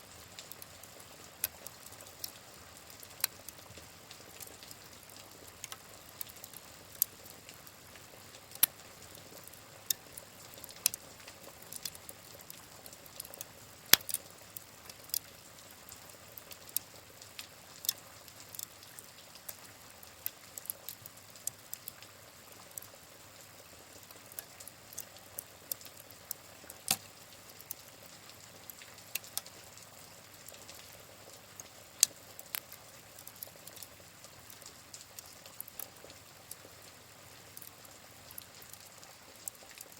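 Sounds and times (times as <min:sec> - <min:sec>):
wood fire crackling and popping: 0:00.1 - 0:39.9.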